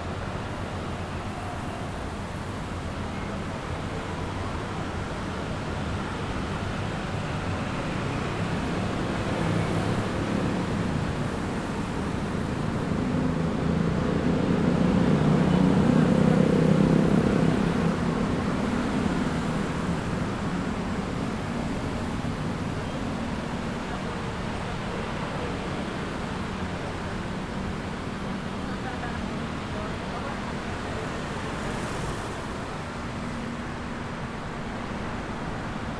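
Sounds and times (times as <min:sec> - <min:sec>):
city street traffic: 0:00.0 - 0:35.9.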